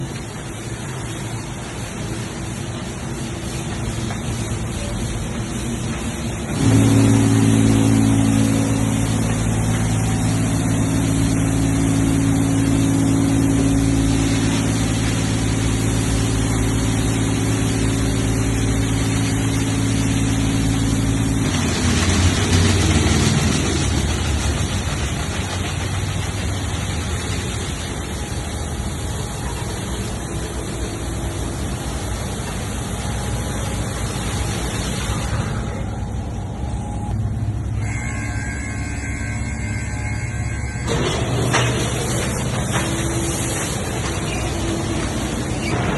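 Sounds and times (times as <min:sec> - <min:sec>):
steady rushing noise: 0:00.0 - 0:37.5
steady machine drone: 0:00.0 - 0:45.9.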